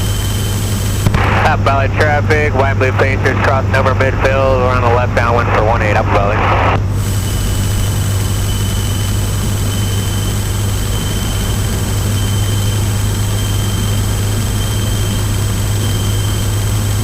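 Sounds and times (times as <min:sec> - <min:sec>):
aircraft engine drone: 0:00.0 - 0:17.0
high whine: 0:00.0 - 0:17.0.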